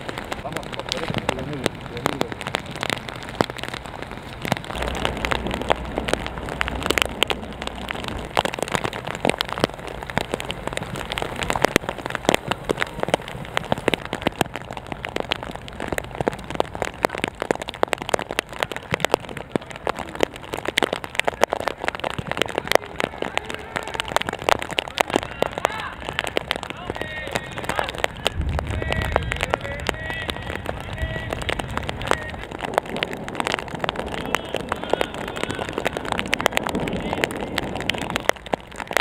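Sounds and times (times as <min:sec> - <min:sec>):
heavy rain with ticking drops: 0:00.0 - 0:39.0.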